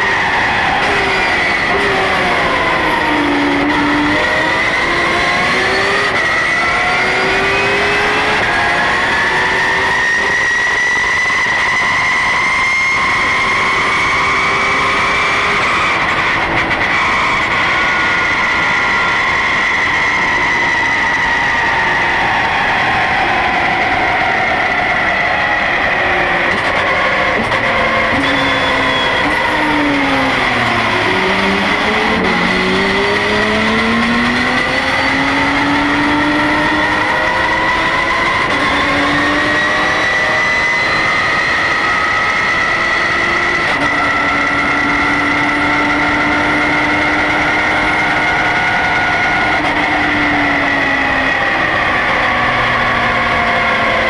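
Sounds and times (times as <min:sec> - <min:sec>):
race car engine in cockpit: 0:00.0 - 0:54.0.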